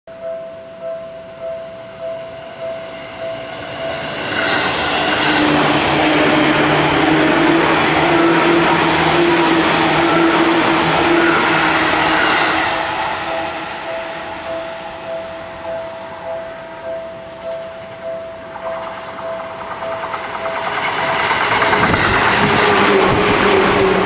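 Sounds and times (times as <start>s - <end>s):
crossing warning bell dinging: 0.1s - 24.0s
electric train passing: 0.2s - 24.0s.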